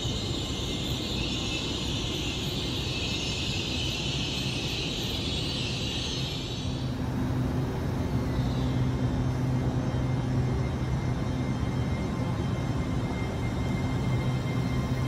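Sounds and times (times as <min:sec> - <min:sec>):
faint high whine: 0:00.0 - 0:15.0
train humming with low drone: 0:00.0 - 0:15.0.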